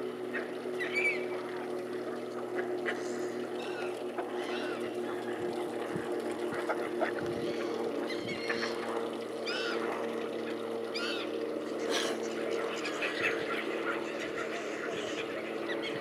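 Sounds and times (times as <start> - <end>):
steady low hum: 0.0 - 16.0
waterbirds calling: 0.0 - 16.0.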